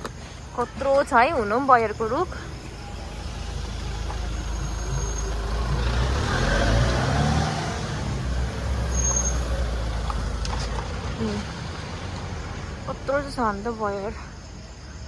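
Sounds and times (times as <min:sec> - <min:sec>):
vehicle engine: 0:00.0 - 0:14.9
road noise: 0:00.0 - 0:15.0.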